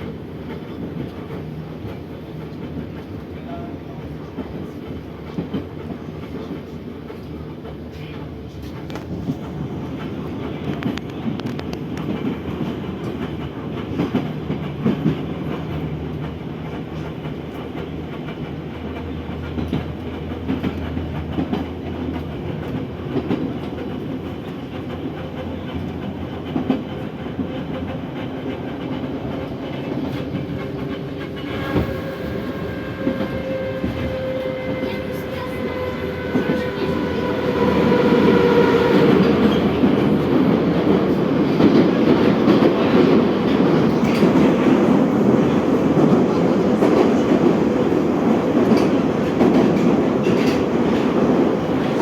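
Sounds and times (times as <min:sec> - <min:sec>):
subway train rumbling: 0:00.0 - 0:52.0.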